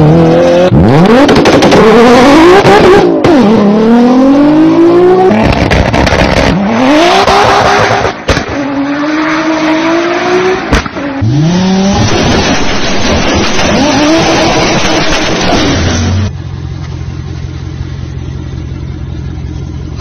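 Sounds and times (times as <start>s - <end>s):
car engines revving: 0.0s - 16.6s.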